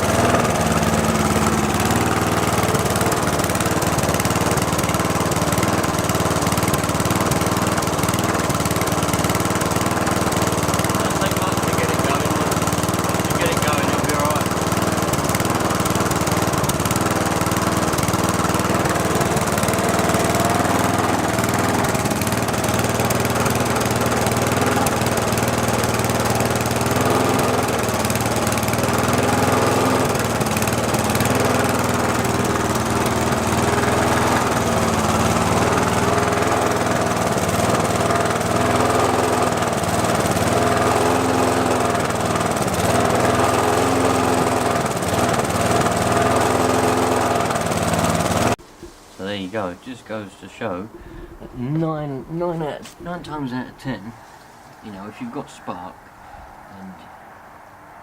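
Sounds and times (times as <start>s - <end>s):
lawn mower engine running: 0.0s - 57.1s.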